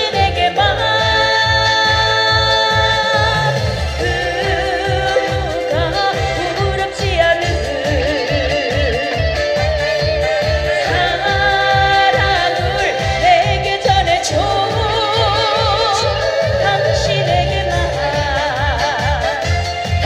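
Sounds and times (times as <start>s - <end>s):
backing track with bass beat: 0.0s - 20.0s
woman singing with vibrato: 0.0s - 20.0s.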